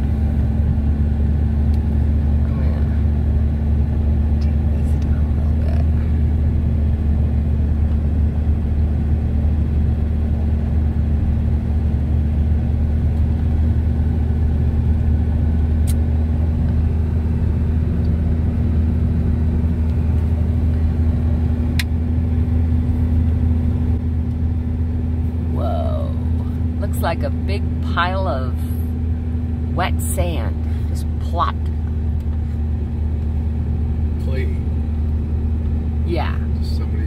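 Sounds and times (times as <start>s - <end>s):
car engine and tyre noise: 0.0s - 37.0s.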